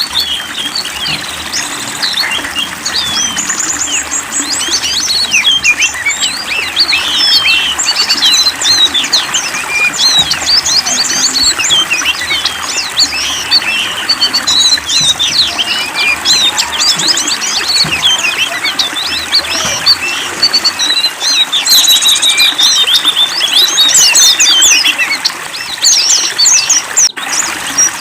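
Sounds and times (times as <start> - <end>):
songbirds chirping and twittering: 0.0 - 28.0.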